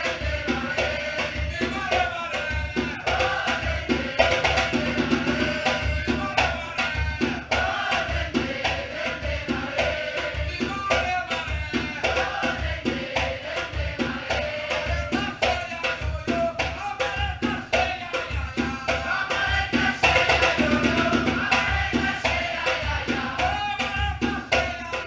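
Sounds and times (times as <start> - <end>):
people singing: 0.0 - 25.0
samba percussion ensemble: 0.0 - 25.0.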